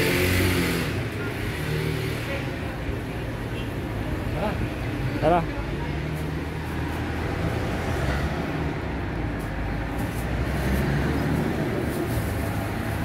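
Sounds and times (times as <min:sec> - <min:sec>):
rumble of motor traffic: 0:00.0 - 0:13.0.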